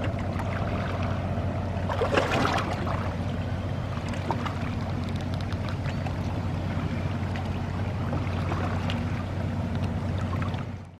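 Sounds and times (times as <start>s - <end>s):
boat engine humming: 0.0s - 10.9s
water rushing and splashing: 0.0s - 10.9s.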